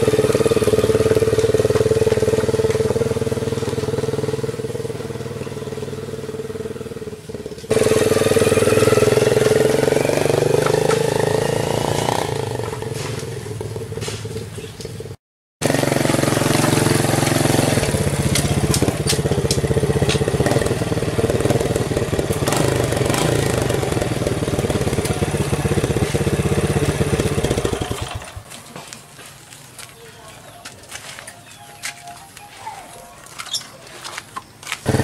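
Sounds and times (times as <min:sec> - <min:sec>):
rattly motorcycle exhaust: 0:00.0 - 0:28.5, 0:34.6 - 0:35.0.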